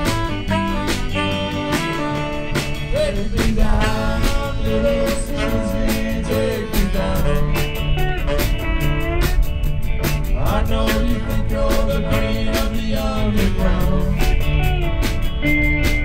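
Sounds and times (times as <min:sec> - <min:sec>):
bass guitar: 0:00.0 - 0:16.0
drum kit beat: 0:00.0 - 0:16.0
electric guitars: 0:00.0 - 0:16.0
sliding lead guitar line: 0:00.0 - 0:16.0.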